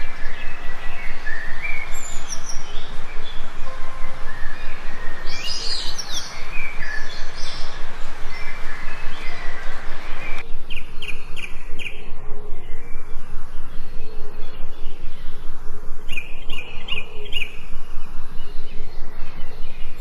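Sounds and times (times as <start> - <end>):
background hiss: 0.0 - 20.0
songbirds chirping and whistling: 0.0 - 20.0.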